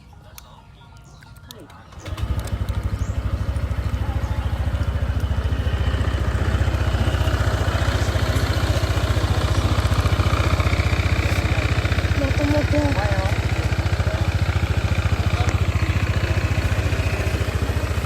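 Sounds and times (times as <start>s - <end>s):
scooter engine idling: 1.8s - 18.0s.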